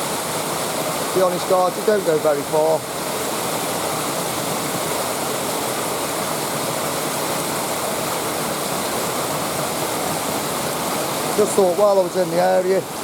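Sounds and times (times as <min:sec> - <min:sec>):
water rushing down waterfall: 0:00.0 - 0:13.0.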